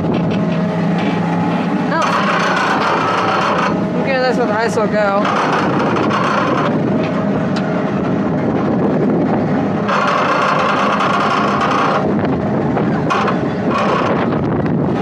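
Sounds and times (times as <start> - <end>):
amusement ride mechanical noise: 0.0 - 15.0
wind buffeting microphone: 0.0 - 15.0.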